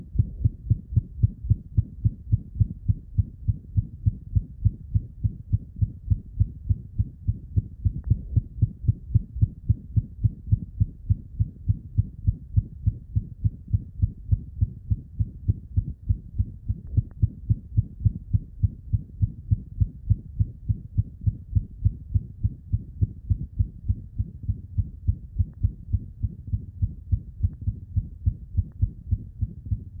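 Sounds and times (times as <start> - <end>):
cat heartbeat through stethoscope: 0.0 - 30.0
heart murmur: 0.0 - 30.0.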